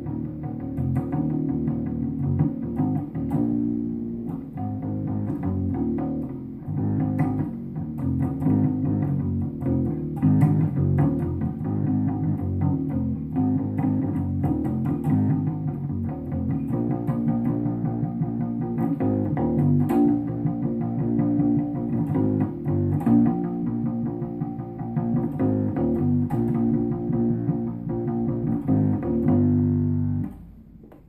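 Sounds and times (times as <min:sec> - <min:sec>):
electric bass guitar: 0:00.0 - 0:31.0.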